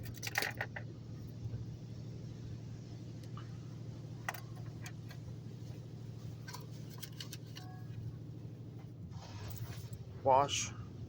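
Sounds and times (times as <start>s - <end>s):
low hum inside car: 0.0s - 11.0s.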